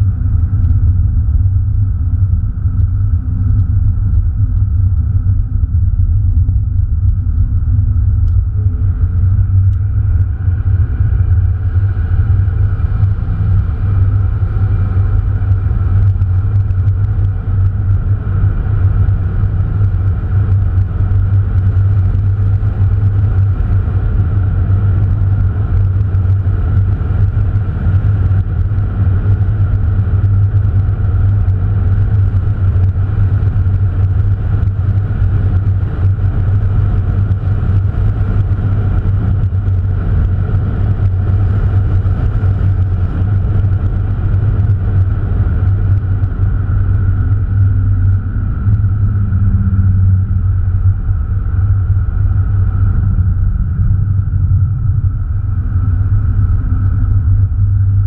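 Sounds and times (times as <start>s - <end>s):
car engine droning: 0.0s - 58.0s.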